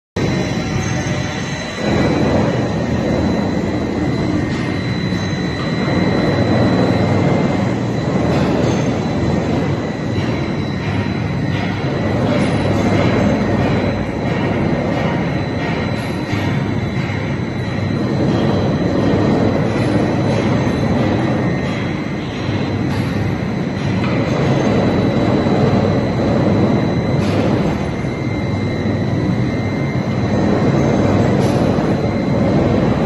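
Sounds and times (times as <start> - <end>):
high whine: 0.2 - 33.0.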